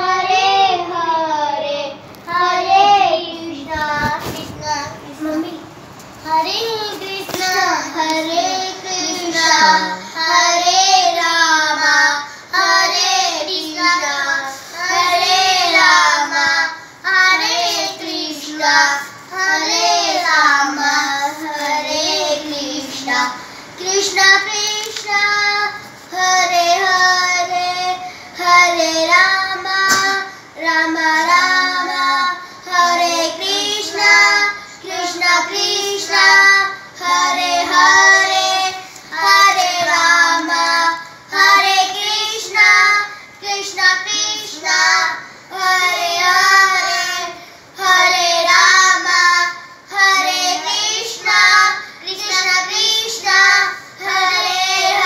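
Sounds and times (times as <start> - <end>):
girls chanting a mantra: 0.0 - 55.0.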